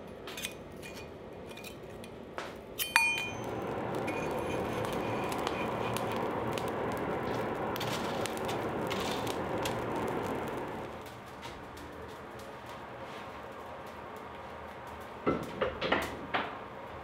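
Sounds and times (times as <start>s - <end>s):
fire crackles: 0.4s - 17.0s
forge fire rushing: 3.0s - 17.0s.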